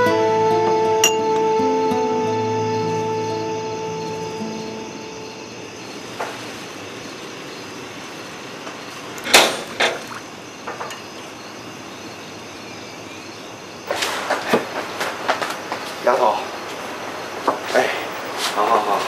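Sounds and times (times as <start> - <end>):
background hiss: 1.5 - 19.0.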